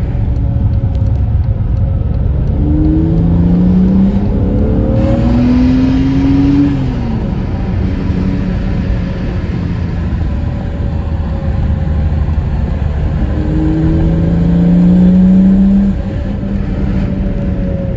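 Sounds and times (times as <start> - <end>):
car engine running under load: 0.0 - 17.9.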